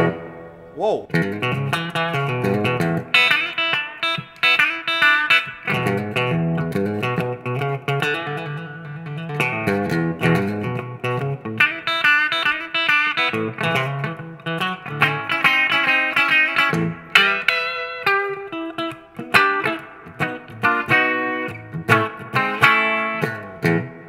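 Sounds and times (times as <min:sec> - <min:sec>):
clean electric guitar playing: 0:00.0 - 0:24.0.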